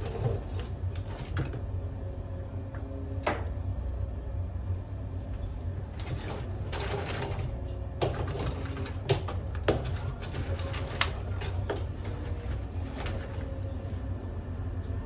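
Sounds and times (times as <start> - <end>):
wood fire crackling: 0.0 - 14.5
low rumble of fire: 0.0 - 15.0.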